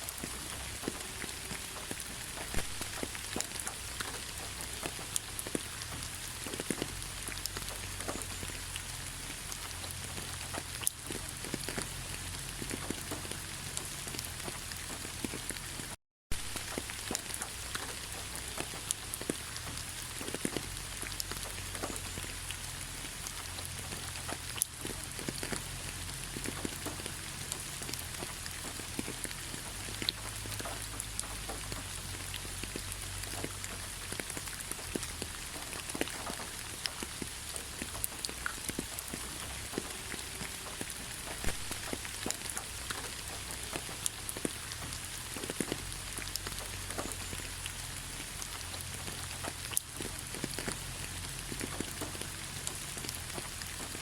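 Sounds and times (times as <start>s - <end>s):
raindrops clicking close by: 0.0s - 54.0s
steady rain falling: 0.0s - 54.0s.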